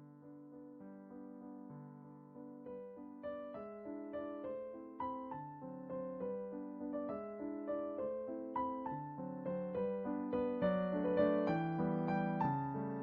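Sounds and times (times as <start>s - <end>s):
soft slow piano music: 0.0s - 13.0s.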